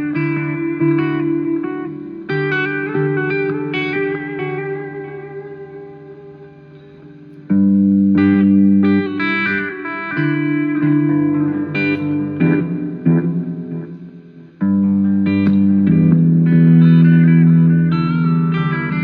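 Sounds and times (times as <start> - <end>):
guitar playing chords: 0.0 - 19.0.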